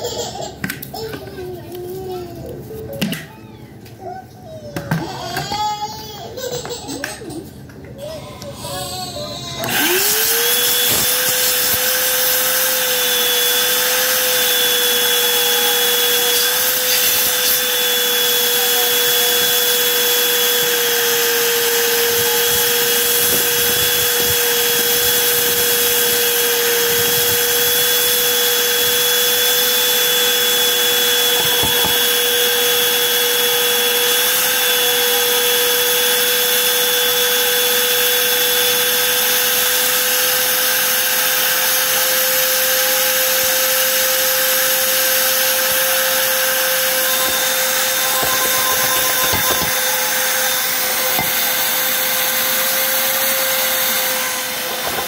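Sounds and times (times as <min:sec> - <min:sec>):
vacuum cleaner motor whine: 0:08.6 - 0:55.0.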